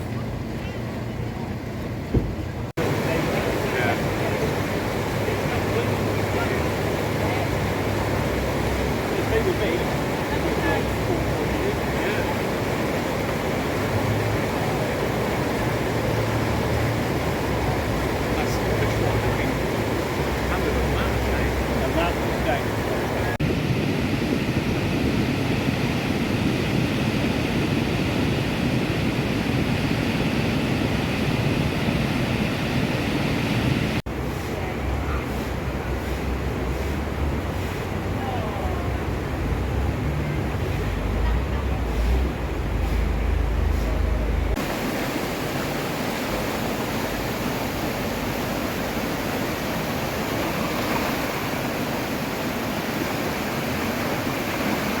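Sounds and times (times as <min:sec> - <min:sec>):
rough sea surf: 0:00.0 - 0:55.0
rushing floodwater: 0:00.0 - 0:55.0
wind buffeting microphone: 0:00.0 - 0:55.0.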